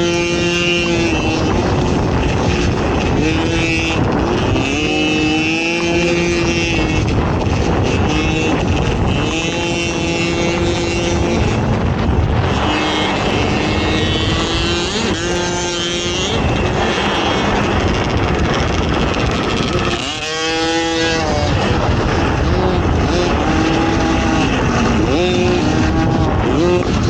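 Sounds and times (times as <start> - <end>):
atv engine revving: 0.0 - 27.0
constant rushing noise: 0.0 - 27.0.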